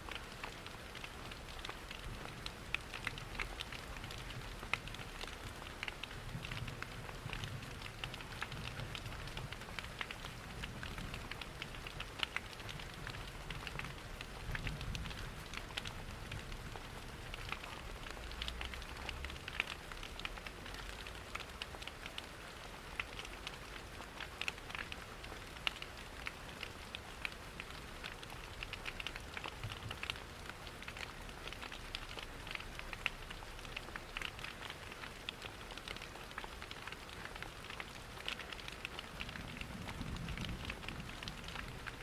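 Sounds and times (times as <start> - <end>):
rain hiss: 0.0 - 42.0
wood fire crackling: 0.1 - 42.0.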